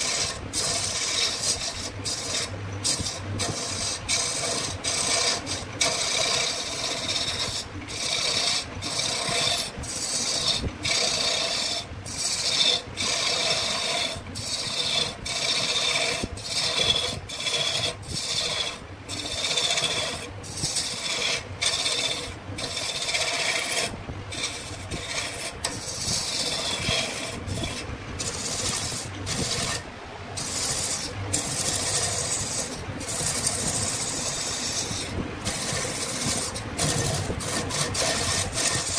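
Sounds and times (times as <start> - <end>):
hand tool scraping wood: 0.0 - 38.9.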